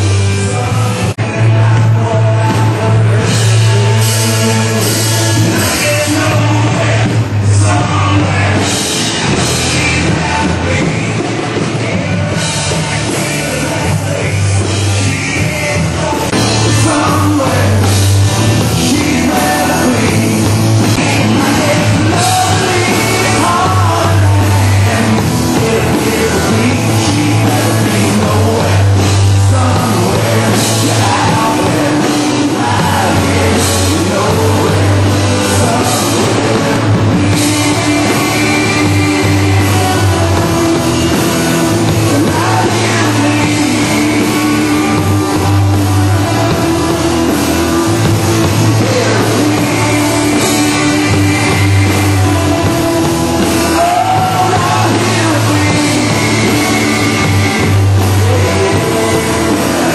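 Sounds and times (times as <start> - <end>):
country-rock song: 0.0 - 59.9
drum kit: 0.0 - 59.9
electric bass: 0.0 - 59.9
man singing: 0.0 - 59.9.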